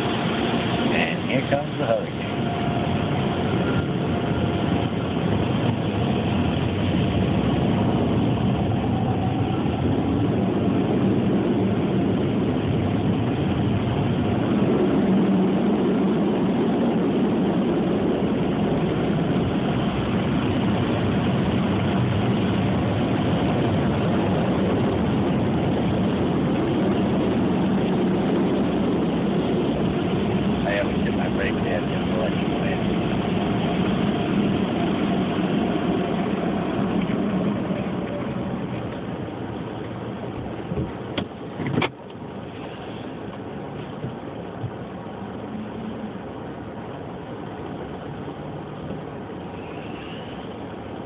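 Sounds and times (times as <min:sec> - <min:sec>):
car wash blower dryers: 0:00.0 - 0:51.0.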